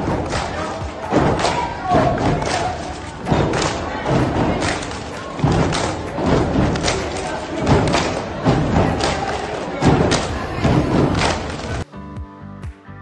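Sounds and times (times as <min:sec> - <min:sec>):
stomping on wooden bleachers: 0:00.0 - 0:11.8.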